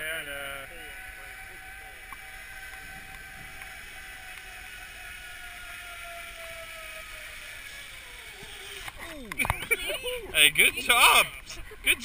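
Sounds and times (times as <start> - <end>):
zip line pulleys whining on cable: 0.0 - 12.0.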